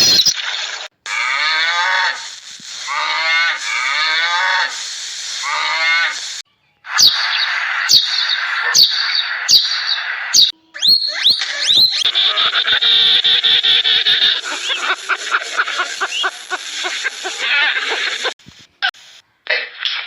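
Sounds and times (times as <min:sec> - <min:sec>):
harsh noisy animal calls: 0:01.0 - 0:18.4.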